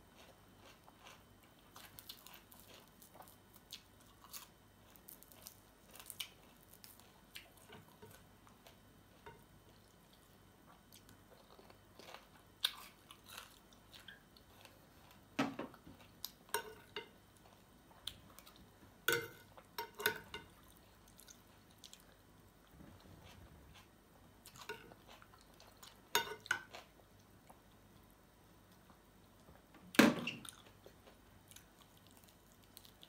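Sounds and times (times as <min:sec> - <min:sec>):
chewing crispy chicken: 0:00.0 - 0:16.5, 0:20.5 - 0:28.1, 0:30.5 - 0:33.0.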